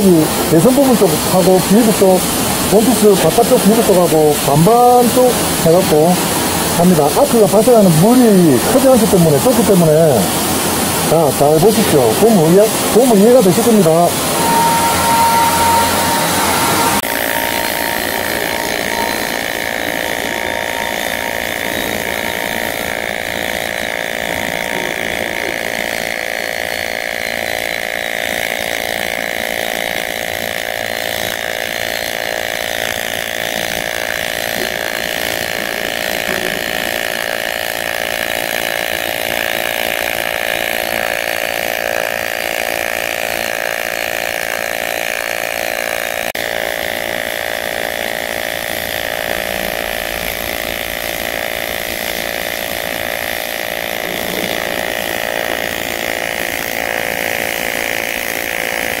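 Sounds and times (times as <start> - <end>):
welding arc buzzing hum: 0.0 - 59.0.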